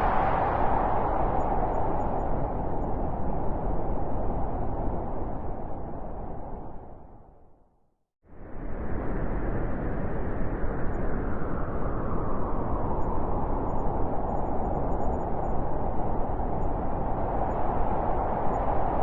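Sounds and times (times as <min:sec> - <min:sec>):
blizzard wind rushing: 0:00.0 - 0:07.4, 0:08.3 - 0:19.0.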